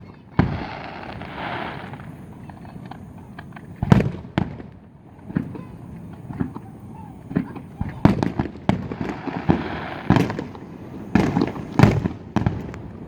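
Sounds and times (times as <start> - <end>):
fireworks booming: 0.0 - 13.0
fireworks crackling hiss: 0.0 - 13.0
fireworks small pops: 0.3 - 13.0.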